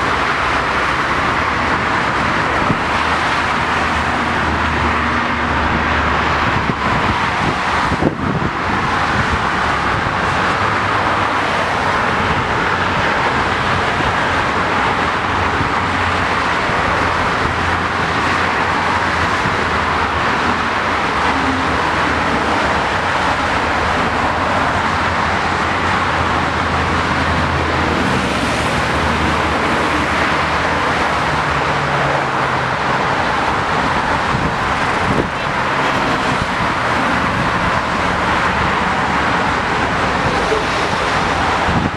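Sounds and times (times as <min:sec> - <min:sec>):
fast highway traffic: 0:00.0 - 0:41.9.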